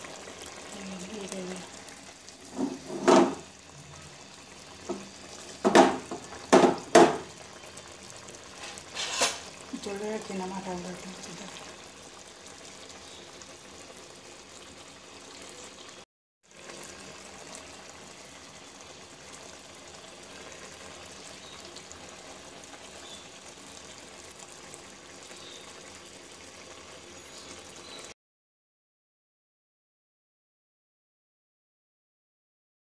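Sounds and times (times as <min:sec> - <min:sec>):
curry bubbling in a pot: 0:00.0 - 0:28.2.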